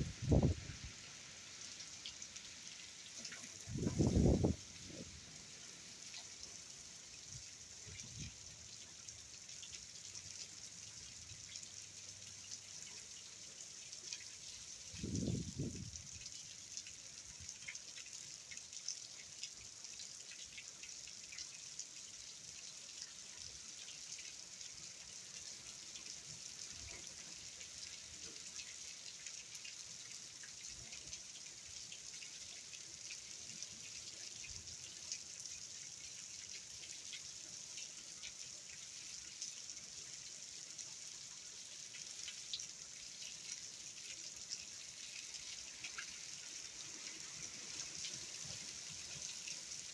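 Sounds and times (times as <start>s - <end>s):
rain falling steadily: 0.0s - 49.9s.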